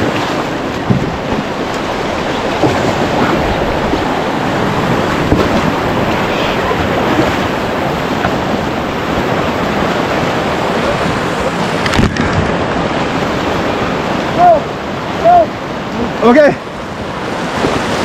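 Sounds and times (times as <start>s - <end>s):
wind buffeting microphone: 0.0s - 16.2s
whitewater rushing: 0.0s - 18.0s.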